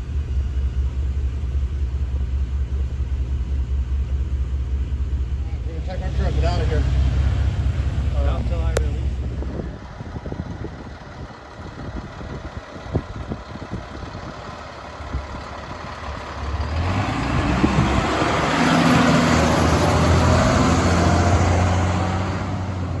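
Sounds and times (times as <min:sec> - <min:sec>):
fire engine driving past: 0:00.0 - 0:23.0
tyre and road noise: 0:00.0 - 0:23.0.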